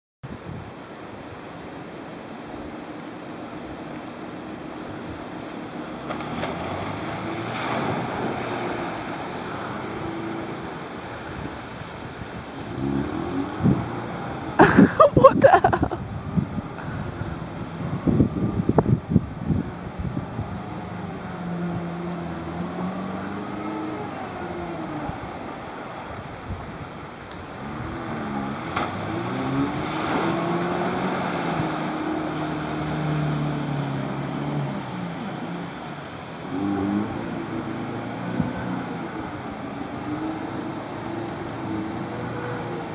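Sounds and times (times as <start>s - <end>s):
water rushing and splashing: 0.2s - 42.9s
car engine hum: 0.7s - 42.9s.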